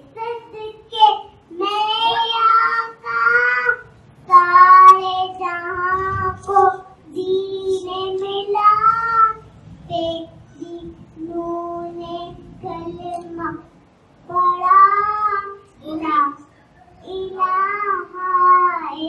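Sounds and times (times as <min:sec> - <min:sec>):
child singing into a microphone: 0:00.0 - 0:19.0.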